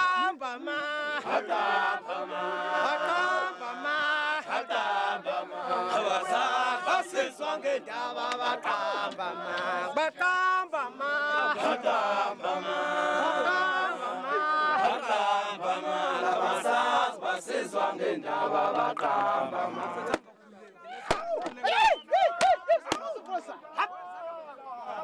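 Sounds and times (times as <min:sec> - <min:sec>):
men chanting in unison: 0:00.0 - 0:20.4, 0:22.7 - 0:25.0.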